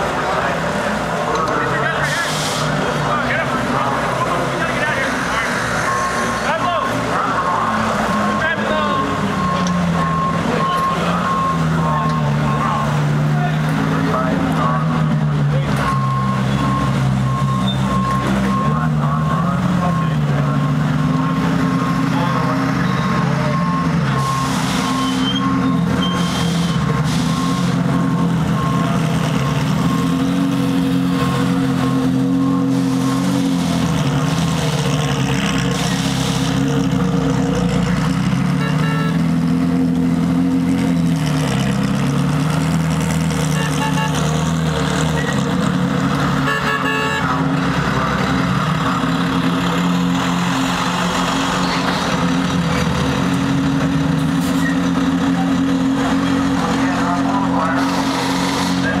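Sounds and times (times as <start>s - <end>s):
race car engines idling: 0.0s - 50.3s, 51.1s - 59.0s.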